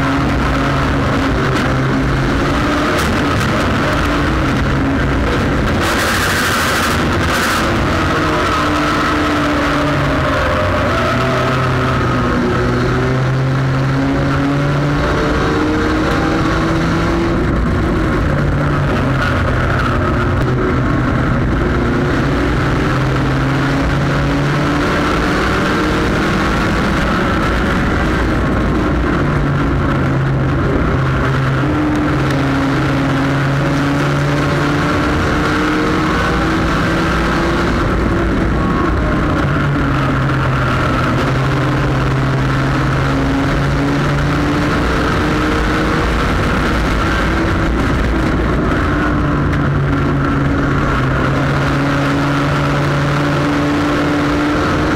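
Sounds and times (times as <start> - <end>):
race car engine accelerating: 0.0 - 54.9
wind and road noise: 0.0 - 54.9.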